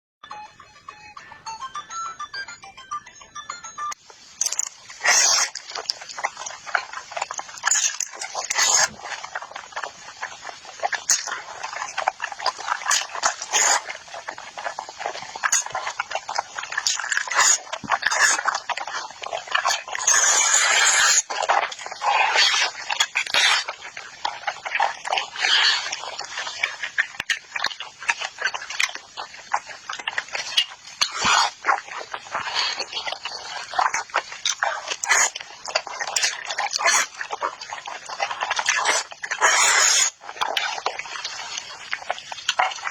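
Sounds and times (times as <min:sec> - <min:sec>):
person chewing and crunching: 0:03.2 - 0:42.9.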